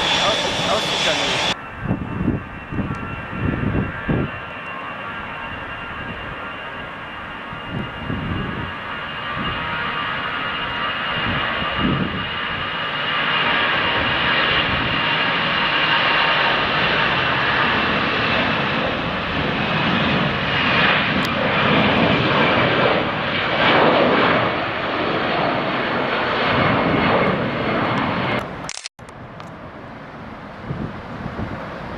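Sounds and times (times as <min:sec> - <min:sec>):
jet engines at takeoff power: 0:00.0 - 0:31.9.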